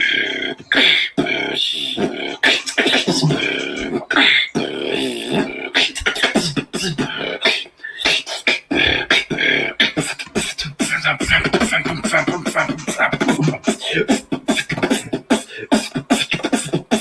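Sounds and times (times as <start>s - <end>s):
beatboxing: 0.0s - 17.0s.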